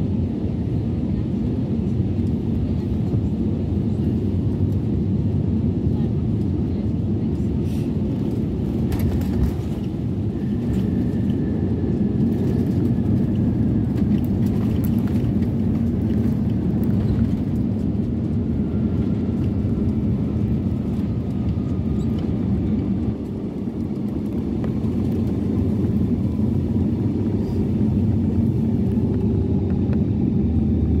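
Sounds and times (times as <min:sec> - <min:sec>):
low rumble of wheels and engines: 0:00.0 - 0:31.0.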